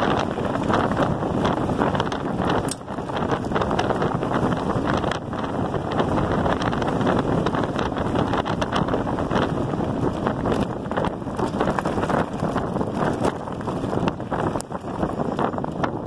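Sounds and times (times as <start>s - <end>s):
tyres rolling over gravel: 0.0s - 16.0s
wind rushing over microphone: 0.0s - 16.0s.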